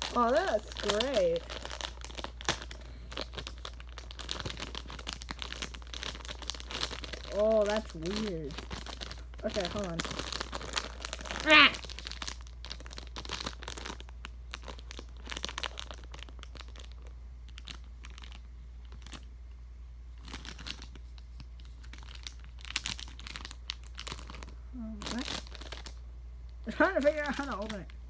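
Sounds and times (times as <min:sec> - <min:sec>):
plastic bag crinkling: 0:00.0 - 0:19.3, 0:20.1 - 0:26.0, 0:26.6 - 0:28.0.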